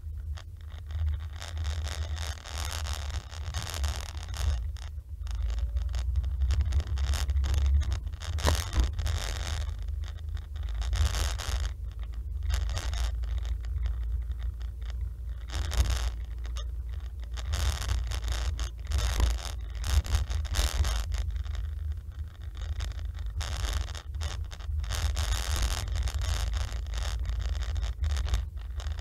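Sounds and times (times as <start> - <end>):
road and engine rumble: 0.0 - 29.0
rustling hiss: 0.0 - 29.0.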